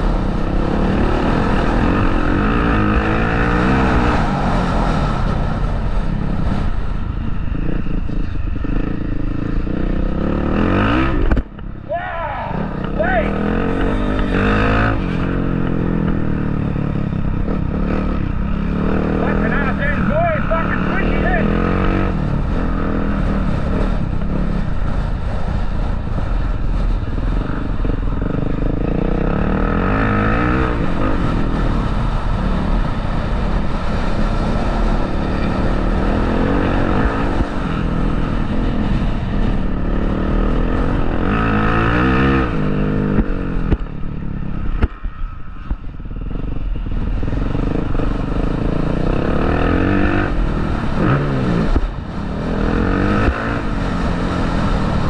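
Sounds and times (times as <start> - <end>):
motocross bike engine revving: 0.0 - 5.4, 7.4 - 11.3, 12.2 - 25.0, 27.2 - 43.8, 47.4 - 55.0.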